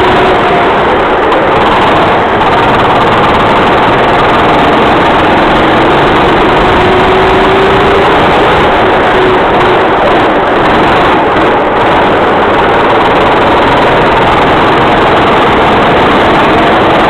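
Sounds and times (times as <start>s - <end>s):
heavy rush of noise: 0.0s - 17.0s
racing kart engine running: 0.0s - 17.0s.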